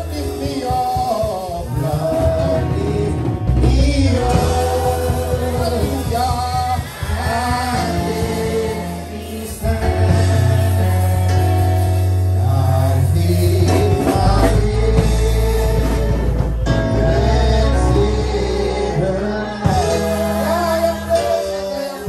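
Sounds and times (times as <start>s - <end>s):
instrumental accompaniment: 0.0s - 22.0s
steady bass line: 0.0s - 22.0s
voices singing gospel: 0.0s - 22.0s.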